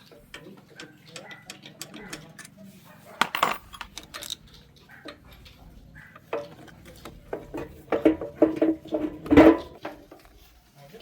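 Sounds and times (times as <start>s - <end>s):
metal tools clinking and knocking: 0.0s - 10.3s.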